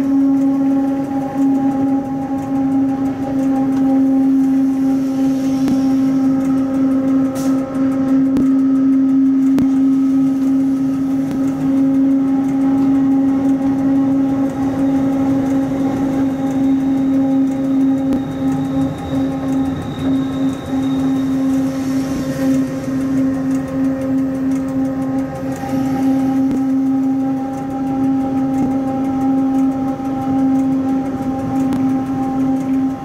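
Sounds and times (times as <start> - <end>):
electric locomotive hum: 0.0 - 33.0
wheels rumbling on rail: 0.0 - 33.0.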